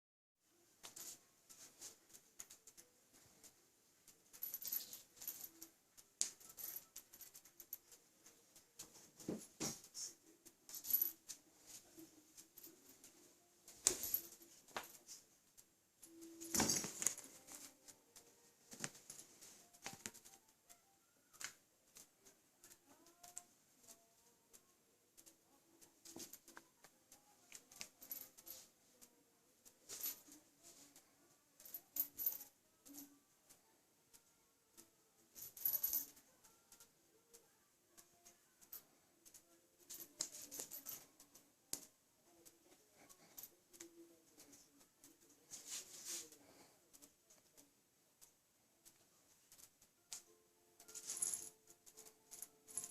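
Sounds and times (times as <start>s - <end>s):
light clicks and scrabbling: 0.8s - 52.9s.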